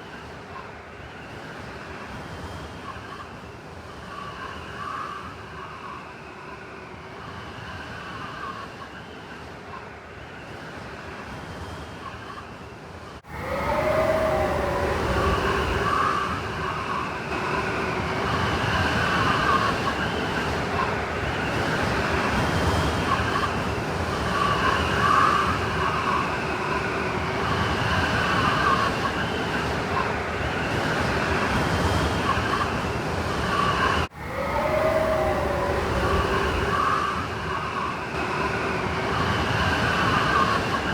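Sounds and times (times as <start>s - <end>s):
blizzard wind howling: 0.0s - 40.9s.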